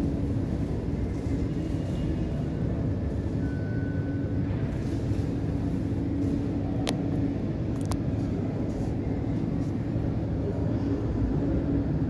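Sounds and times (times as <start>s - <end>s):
jet aircraft and vehicles rumble: 0.0s - 12.0s
steady hum: 0.0s - 12.0s.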